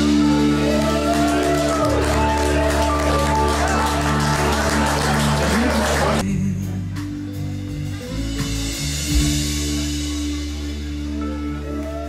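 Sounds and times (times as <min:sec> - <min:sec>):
live band playing held chords: 0:00.0 - 0:12.0.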